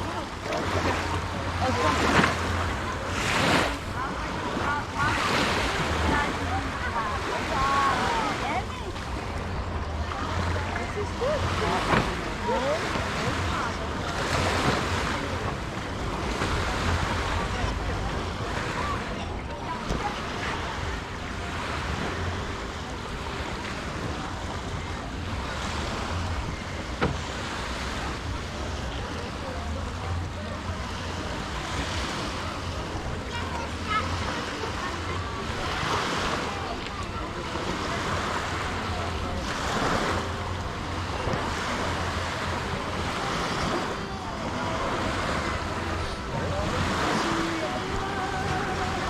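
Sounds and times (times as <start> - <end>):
faint voices: 0.0 - 49.0
waves washing onto sand: 0.0 - 49.0.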